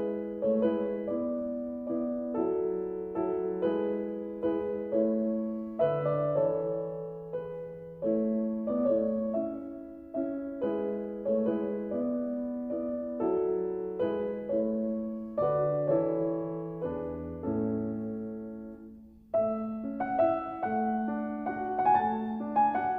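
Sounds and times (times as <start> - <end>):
slow gentle piano piece: 0.0 - 22.9.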